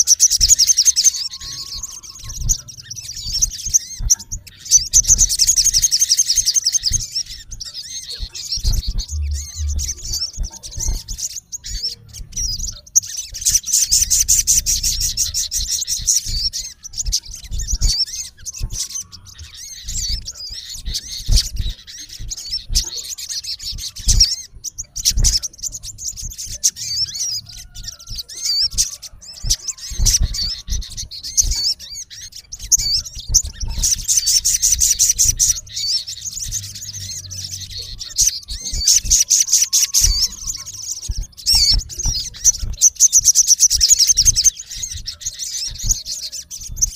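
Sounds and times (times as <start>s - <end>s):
bird fast chattering trills: 0.0s - 46.9s
bird high-pitched chirps: 0.0s - 46.9s.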